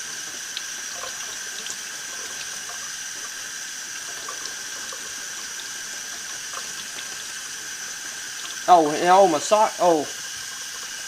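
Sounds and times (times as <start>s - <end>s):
faucet water splashing into sink: 0.0s - 11.0s.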